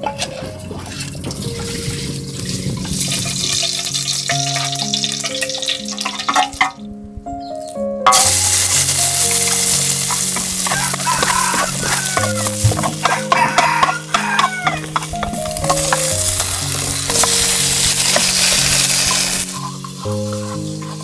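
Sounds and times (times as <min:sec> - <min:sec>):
soft background music: 0:00.0 - 0:21.0
shallots frying in oil: 0:00.8 - 0:06.7, 0:08.1 - 0:21.0
oil sizzling in a pan: 0:01.6 - 0:06.6, 0:08.1 - 0:21.0.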